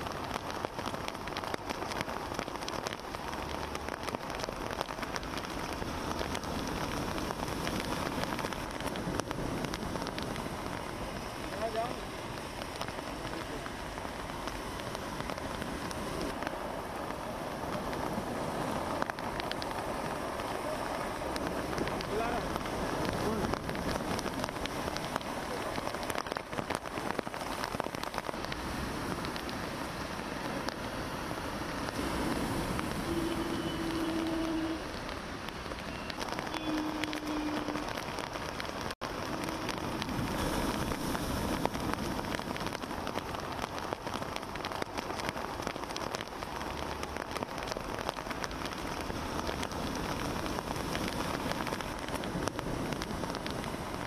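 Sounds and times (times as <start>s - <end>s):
heavy rain pattering: 0.0s - 54.0s
sea waves breaking on seawall: 0.0s - 54.0s.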